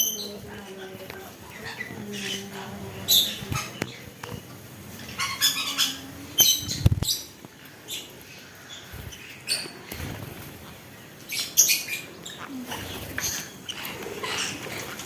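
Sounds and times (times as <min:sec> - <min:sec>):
birds squawking and chirping: 0:00.0 - 0:15.0.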